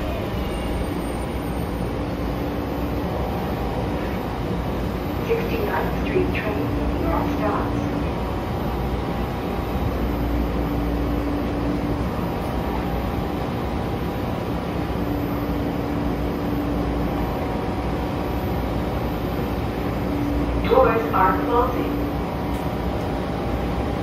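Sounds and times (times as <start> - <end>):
steady hum: 0.0 - 24.0
train rumbling: 0.0 - 24.0.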